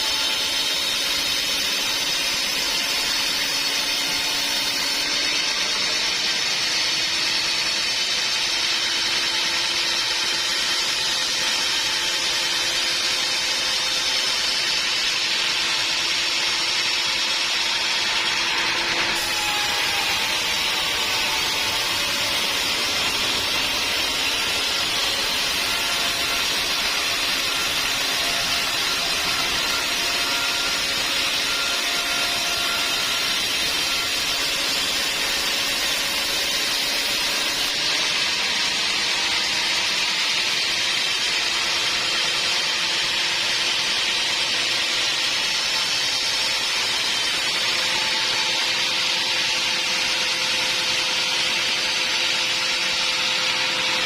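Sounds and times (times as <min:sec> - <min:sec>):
band saw running: 0:00.0 - 0:54.0.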